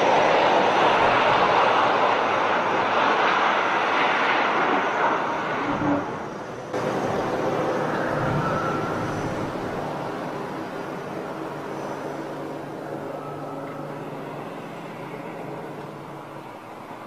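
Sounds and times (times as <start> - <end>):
jet airliner sliding on runway: 0.0 - 17.0.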